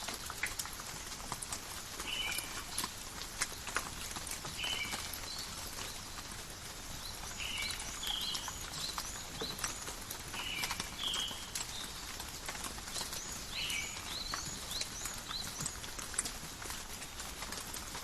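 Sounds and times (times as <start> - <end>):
rain pattering and dripping: 0.0 - 18.0.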